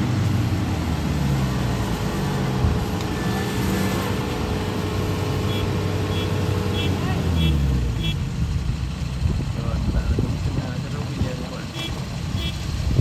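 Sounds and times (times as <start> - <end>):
harvester engine droning: 0.0 - 13.0.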